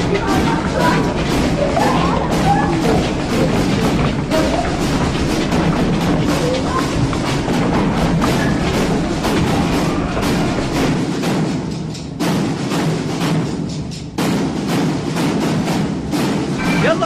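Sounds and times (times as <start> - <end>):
music with fast percussive beat: 0.0 - 17.0.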